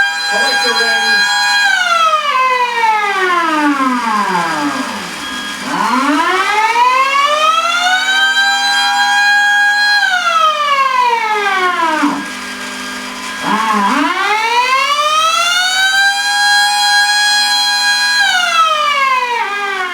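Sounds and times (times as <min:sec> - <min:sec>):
siren wailing: 0:00.0 - 0:19.9.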